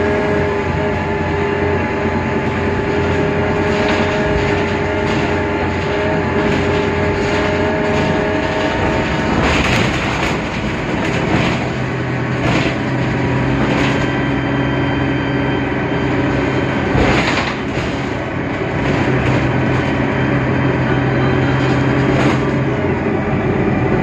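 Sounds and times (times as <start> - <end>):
rattling bumps: 0.0 - 23.2
bus diesel engine humming: 0.0 - 24.0
road rumble: 0.0 - 24.0.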